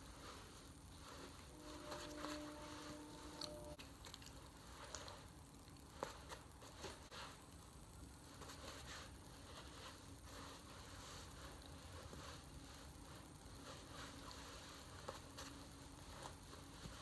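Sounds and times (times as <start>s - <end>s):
soft rustles: 0.0s - 17.0s.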